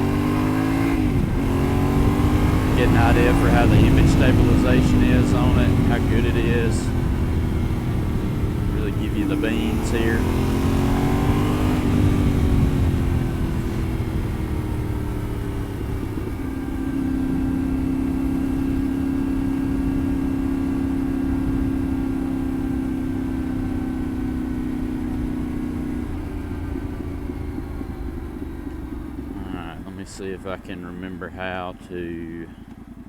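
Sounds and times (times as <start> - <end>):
low wind rumble: 0.0 - 33.0
motorcycle engine droning: 0.0 - 33.0.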